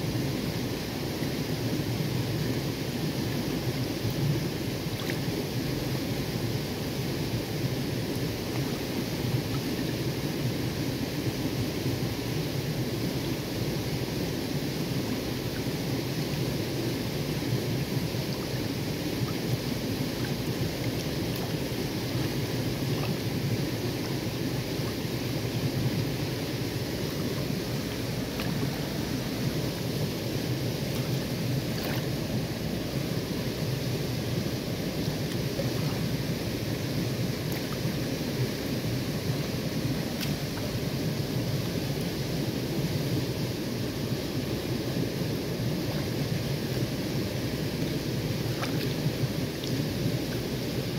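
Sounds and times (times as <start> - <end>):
stream water over stones: 0.0 - 50.9.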